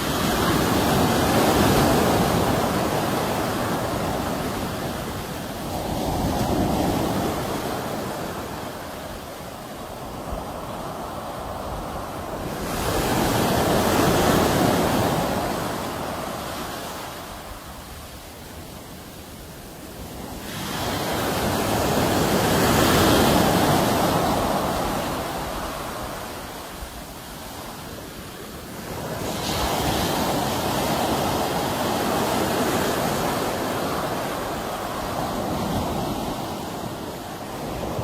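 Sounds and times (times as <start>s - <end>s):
sea waves washing onto shore: 0.0s - 38.0s.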